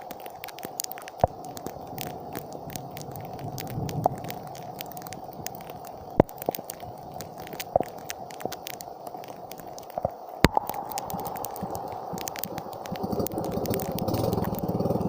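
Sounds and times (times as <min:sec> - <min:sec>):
heavy rain on hard surface: 0:00.0 - 0:15.0.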